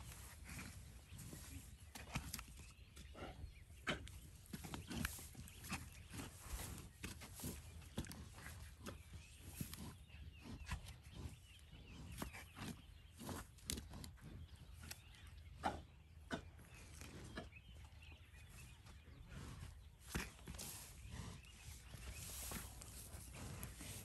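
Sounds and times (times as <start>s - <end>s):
rhinos crunching hay: 0.0s - 15.2s, 19.1s - 24.0s.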